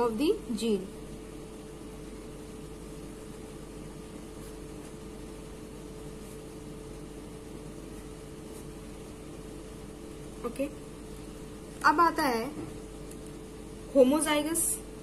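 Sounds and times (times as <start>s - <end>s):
equipment hum and hiss: 0.0s - 15.0s.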